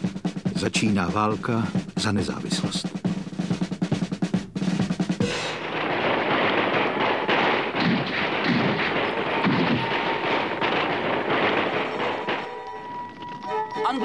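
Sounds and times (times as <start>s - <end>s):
musket fire crackle: 0.0s - 13.8s.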